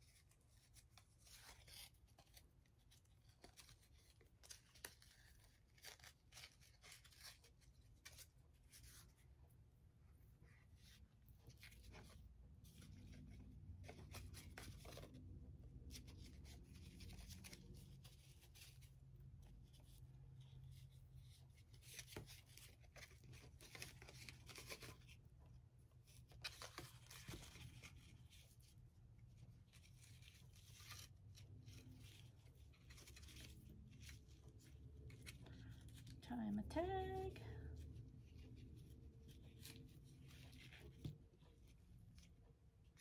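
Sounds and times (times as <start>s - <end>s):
low room hum: 0.0s - 43.0s
rustling of twine and fabric: 0.0s - 43.0s.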